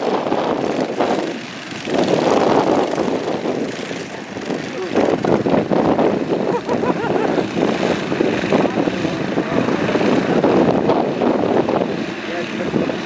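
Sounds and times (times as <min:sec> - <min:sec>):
racing kart engines revving: 0:00.0 - 0:13.0.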